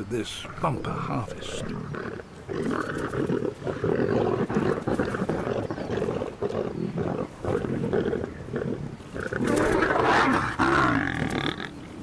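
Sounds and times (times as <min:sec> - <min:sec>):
lions growling: 0:00.2 - 0:11.8.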